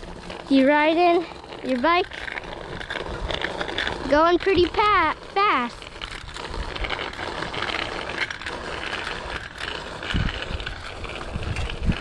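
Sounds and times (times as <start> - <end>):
bicycle tyre and road noise: 0.0 - 12.0
bike rattling: 0.0 - 12.0
wind buffeting microphone: 0.0 - 12.0.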